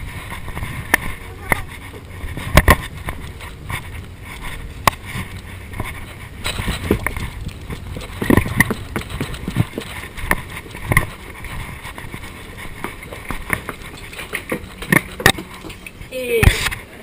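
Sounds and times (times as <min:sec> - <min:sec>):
irregular knocks and clicks: 0:00.5 - 0:16.1.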